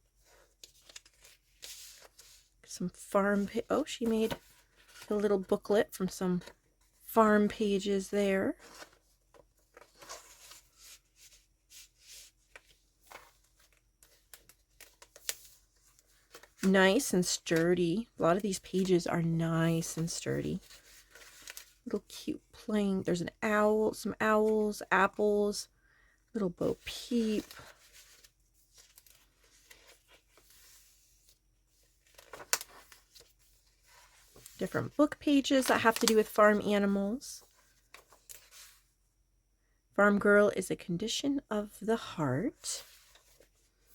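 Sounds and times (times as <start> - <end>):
paper pages rustling: 0.1 - 22.1, 26.6 - 38.9, 42.8 - 43.9.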